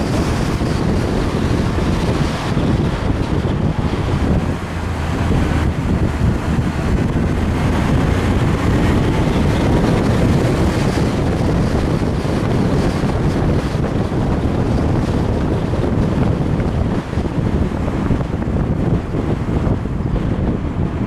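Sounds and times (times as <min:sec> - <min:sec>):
car engine and road noise: 0:00.0 - 0:21.0
wind buffeting microphone: 0:00.0 - 0:21.0.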